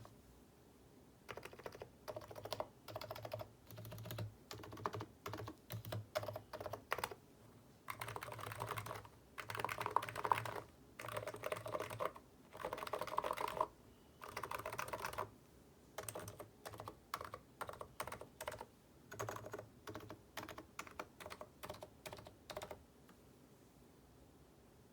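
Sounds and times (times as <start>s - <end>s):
keyboard typing: 1.3s - 7.2s, 7.9s - 15.3s, 16.0s - 22.8s.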